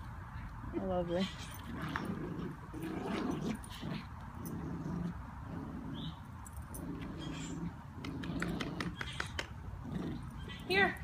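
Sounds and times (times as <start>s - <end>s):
dogs growling: 1.4s - 10.7s.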